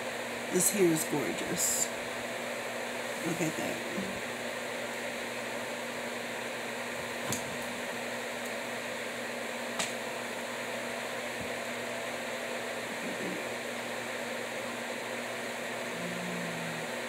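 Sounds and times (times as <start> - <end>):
fan humming: 0.0 - 17.0.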